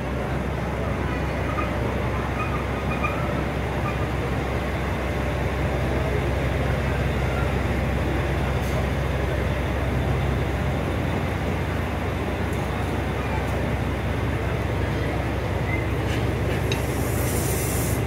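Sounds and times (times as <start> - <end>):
train engine idling: 0.0 - 18.0.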